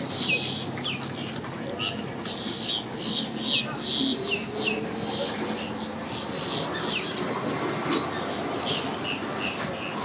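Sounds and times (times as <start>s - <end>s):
birds chirping: 0.0s - 10.0s
low rumble of vehicles: 0.0s - 10.0s.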